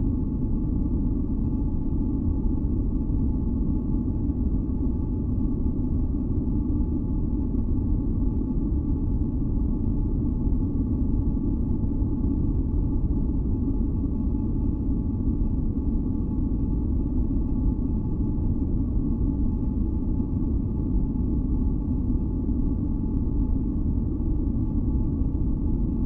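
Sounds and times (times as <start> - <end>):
deep rumbling white noise: 0.0 - 26.0.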